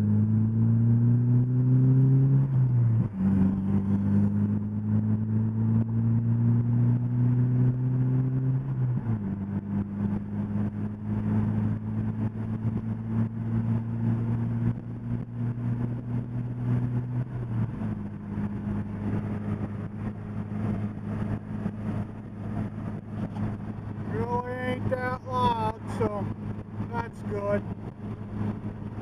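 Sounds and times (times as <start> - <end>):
car engine exhaust drone: 0.0 - 29.0.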